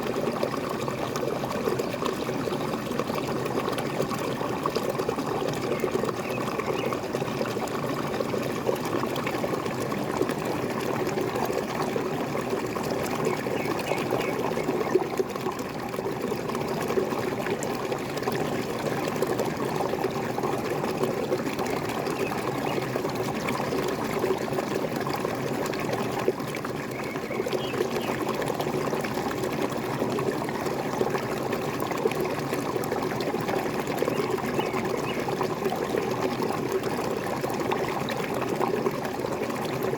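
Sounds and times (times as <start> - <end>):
small waterfall pouring and splashing: 0.0 - 39.9.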